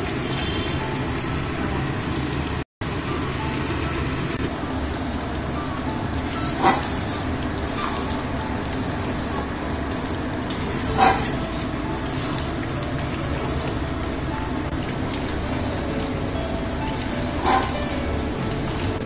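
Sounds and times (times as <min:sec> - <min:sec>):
gravy sizzling in a pan: 0:00.0 - 0:19.0.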